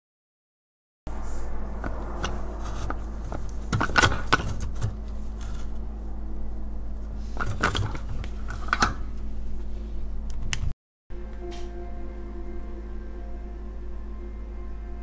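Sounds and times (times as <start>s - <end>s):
steady low hum: 1.1s - 15.0s.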